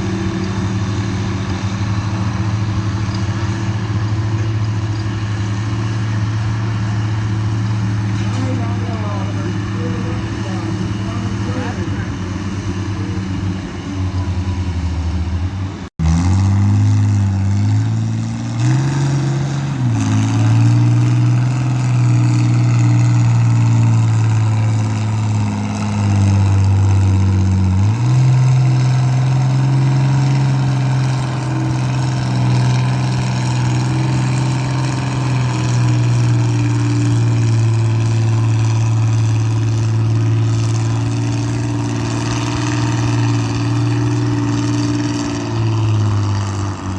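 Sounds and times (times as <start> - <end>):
vehicle engine running under load: 0.0 - 46.9.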